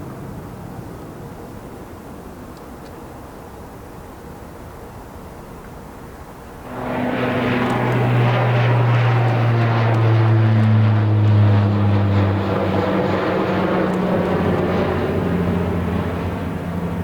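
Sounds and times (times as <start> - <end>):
airliner engine noise: 0.0 - 17.0.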